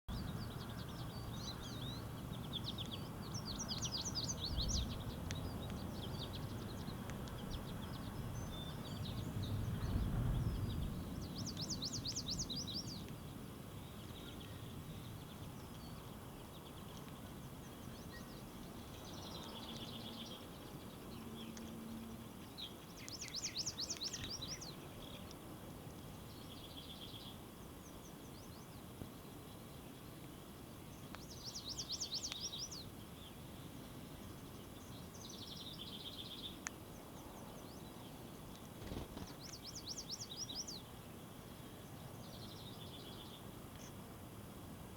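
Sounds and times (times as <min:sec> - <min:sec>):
songbirds singing buzzy trills: 0:00.1 - 0:44.1.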